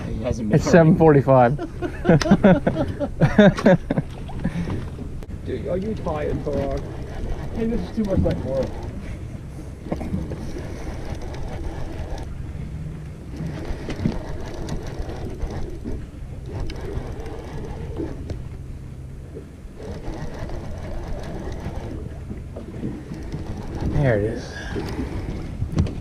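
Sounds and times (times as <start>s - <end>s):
low steady hum: 0.0s - 26.0s
fishing reel gears whirring: 0.6s - 25.8s.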